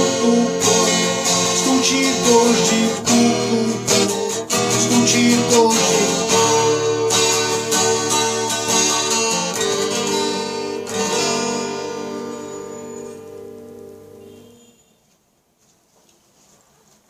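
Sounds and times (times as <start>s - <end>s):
guitar strumming chords: 0.0s - 14.6s.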